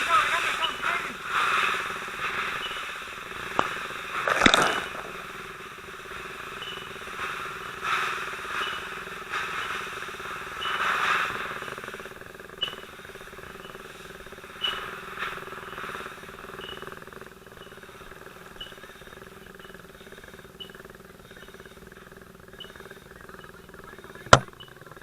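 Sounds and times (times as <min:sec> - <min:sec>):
steady hum and hiss: 0:00.0 - 0:25.0.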